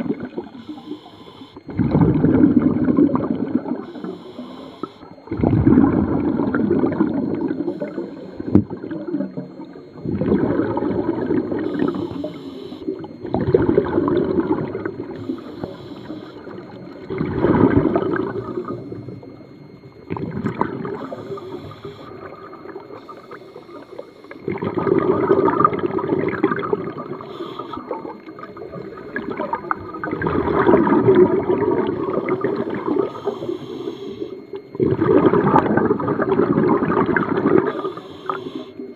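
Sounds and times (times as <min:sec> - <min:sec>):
air bubbles gurgling underwater: 0:00.0 - 0:00.9, 0:01.6 - 0:38.9.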